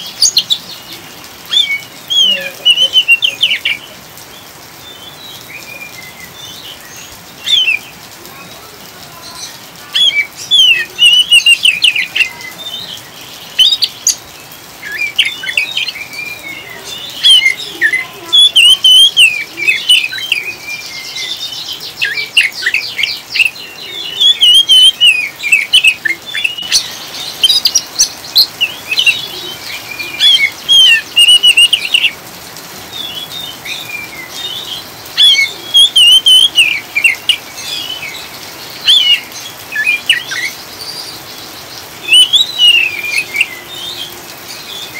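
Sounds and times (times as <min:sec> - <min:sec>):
rain hiss: 0:00.0 - 0:44.9
bird singing chattering chirps: 0:04.8 - 0:08.0, 0:09.2 - 0:32.2, 0:32.9 - 0:44.9.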